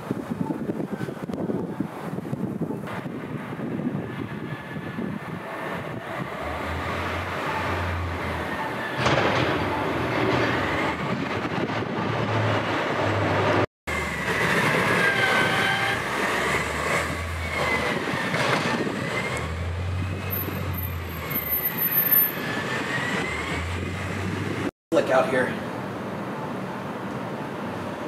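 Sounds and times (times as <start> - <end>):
blizzard wind whining: 0.0 - 24.7.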